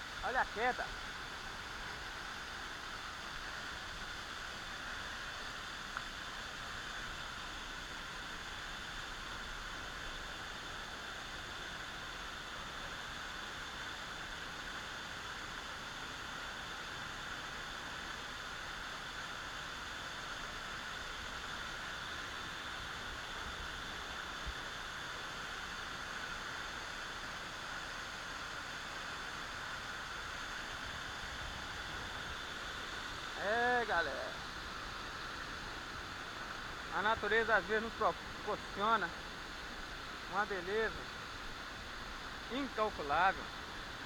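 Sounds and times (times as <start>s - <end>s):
waterfall rushing over rock: 0.0s - 44.0s.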